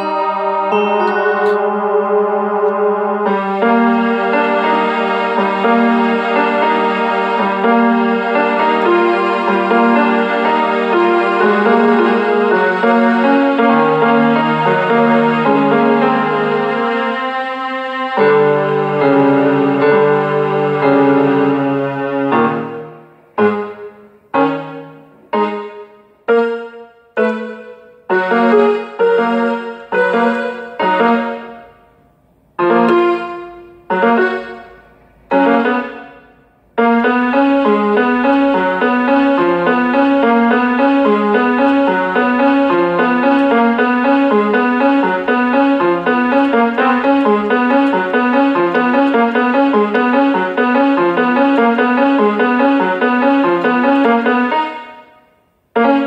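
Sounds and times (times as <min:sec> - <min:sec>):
fast piano run: 0:00.0 - 0:56.0
piano chords: 0:00.0 - 0:56.0.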